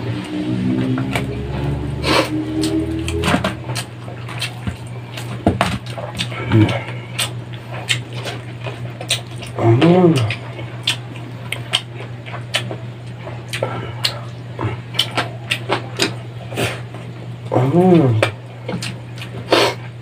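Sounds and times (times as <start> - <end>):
steady low hum: 0.0 - 20.0
wet chewing and smacking: 0.1 - 20.0.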